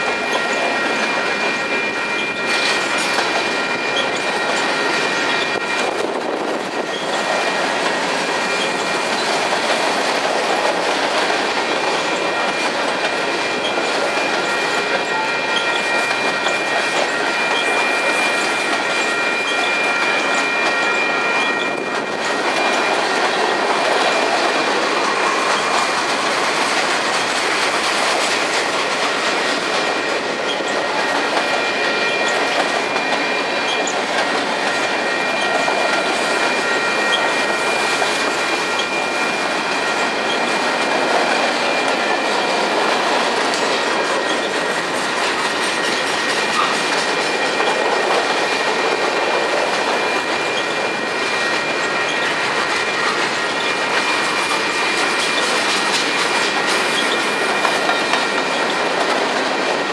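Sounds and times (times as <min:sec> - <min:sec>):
high wheel squeal: 0:00.0 - 0:09.9, 0:12.0 - 0:24.4, 0:30.4 - 0:49.0, 0:49.7 - 0:59.3
train wheels rushing on rails: 0:00.0 - 0:59.9.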